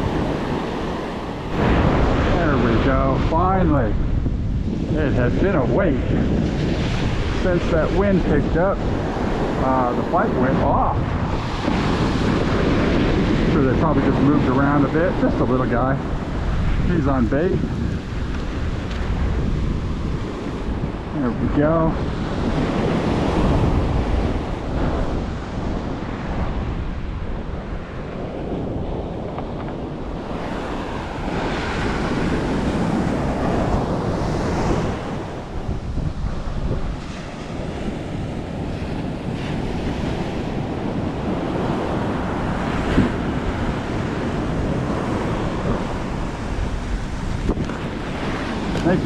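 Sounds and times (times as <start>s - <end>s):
surf breaking on the beach: 0.0s - 49.0s
wind buffeting the microphone: 0.0s - 49.0s.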